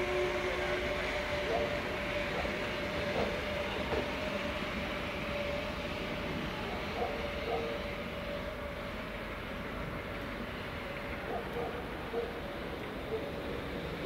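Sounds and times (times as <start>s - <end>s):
train horn blast: 0.0s - 12.2s
train rolling rumble: 0.0s - 14.0s.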